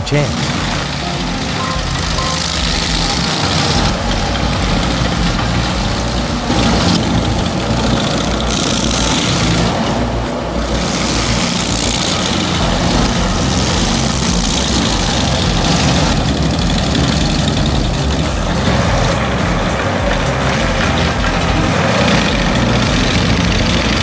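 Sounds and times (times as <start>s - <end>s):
harsh high-pitched noise: 0.0s - 24.0s
heavy machine engine running: 0.0s - 24.0s.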